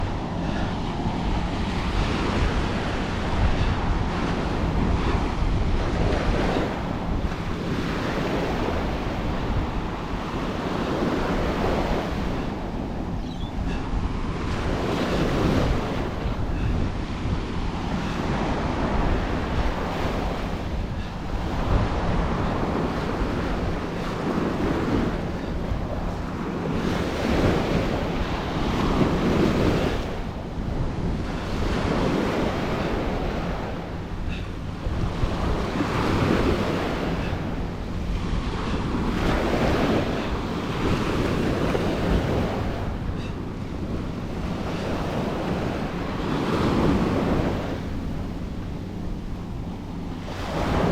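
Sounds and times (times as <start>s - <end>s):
ocean waves breaking on beach: 0.0s - 50.9s.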